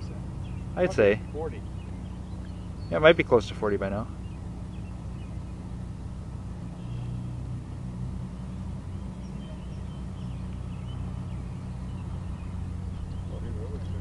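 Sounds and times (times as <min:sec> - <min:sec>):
distant propeller plane drone: 0:00.0 - 0:14.0.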